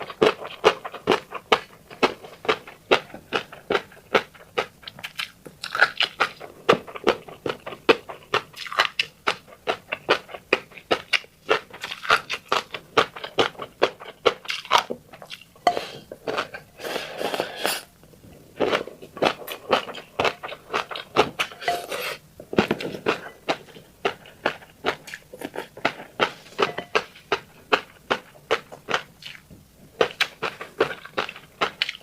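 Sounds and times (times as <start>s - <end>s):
person chewing fish roe: 0.0s - 32.0s.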